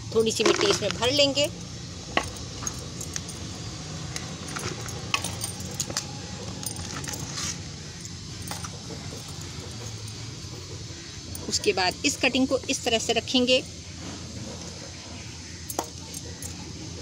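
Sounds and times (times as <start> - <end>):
low steady hum: 0.0 - 17.0
bangles clinking: 0.1 - 13.8, 15.6 - 16.9.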